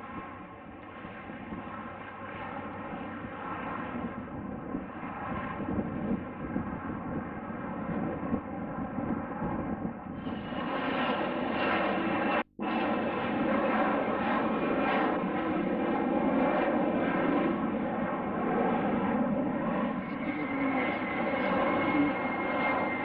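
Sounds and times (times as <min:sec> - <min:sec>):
aircraft engines running: 0:00.0 - 0:23.0.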